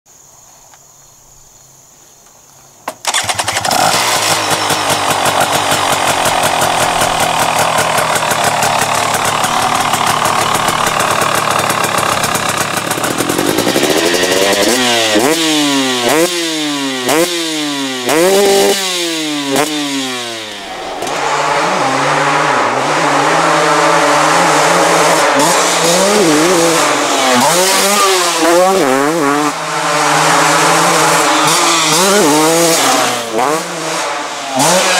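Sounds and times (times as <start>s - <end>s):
two-stroke motorcycle engine revving: 3.0s - 34.9s.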